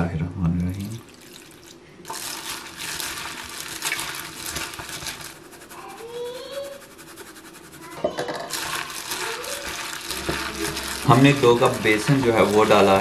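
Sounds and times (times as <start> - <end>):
hand mixing wet vegetables: 0.5 - 13.0.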